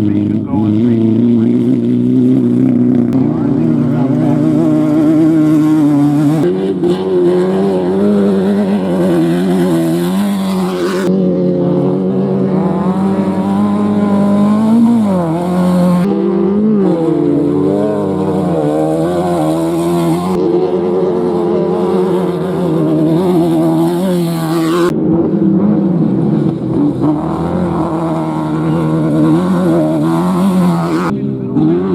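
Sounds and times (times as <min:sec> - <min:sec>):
race vehicle engines revving: 0:00.0 - 0:31.9.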